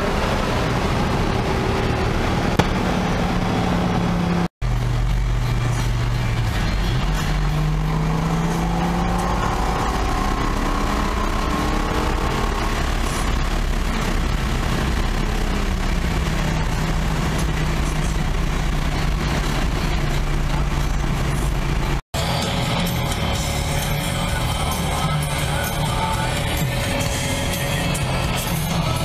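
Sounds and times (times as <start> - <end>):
car engine accelerating: 0.0 - 29.0
road and wind noise: 0.0 - 29.0.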